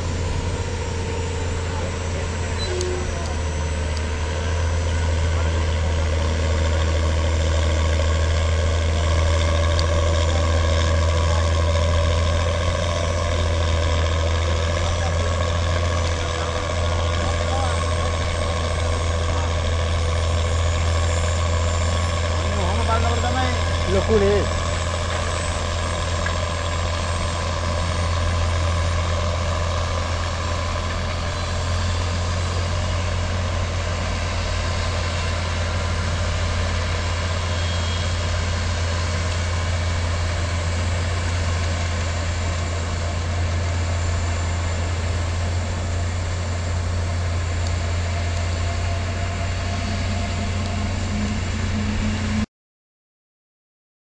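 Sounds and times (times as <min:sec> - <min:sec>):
jet engine hum and whine: 0:00.0 - 0:52.5.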